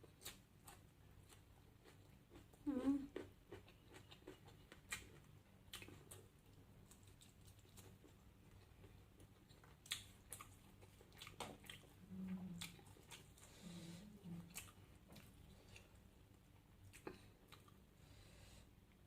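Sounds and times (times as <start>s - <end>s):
chewing and biting food: 0.0s - 13.6s, 14.3s - 17.9s.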